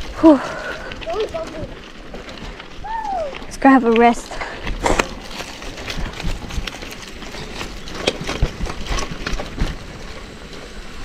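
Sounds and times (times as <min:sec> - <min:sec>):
bicycle rattling over bumpy grass: 0:00.0 - 0:11.0.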